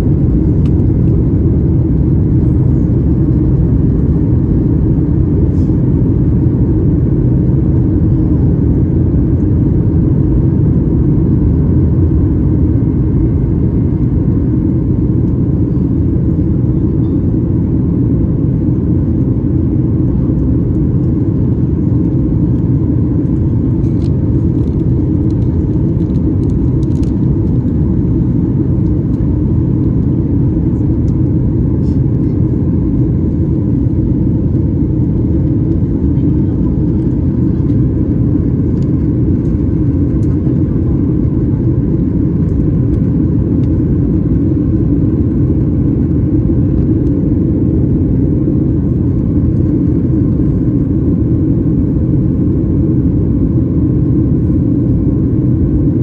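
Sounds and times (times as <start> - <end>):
jet engines droning: 0.0 - 56.0
rushing air in cabin: 0.0 - 56.0.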